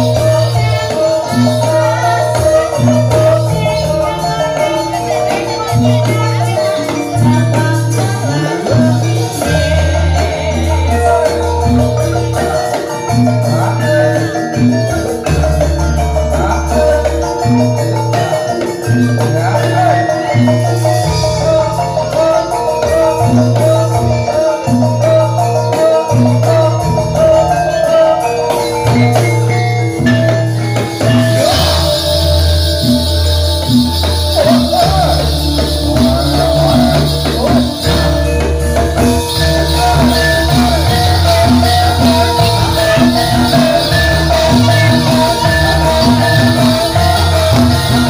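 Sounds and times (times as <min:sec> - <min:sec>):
drum strokes: 0:00.0 - 0:48.0
low bass notes: 0:00.0 - 0:48.0
metallophones playing melody: 0:00.0 - 0:48.0
wavering melody line: 0:00.0 - 0:48.0.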